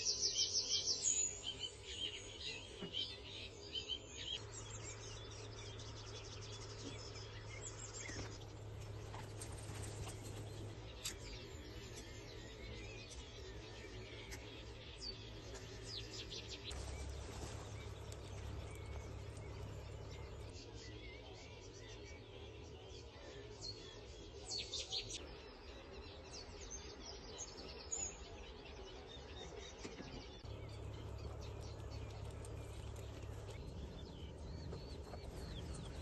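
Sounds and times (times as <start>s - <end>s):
small birds chirping and singing: 0.0s - 36.0s
low steady rumble: 1.2s - 24.6s, 28.2s - 36.0s.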